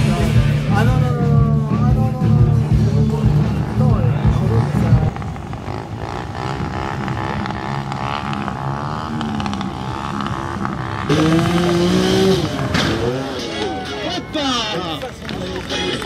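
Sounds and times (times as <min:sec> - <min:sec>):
loud steady droning note: 0:00.0 - 0:16.0
motorcycle engine running: 0:00.0 - 0:16.0.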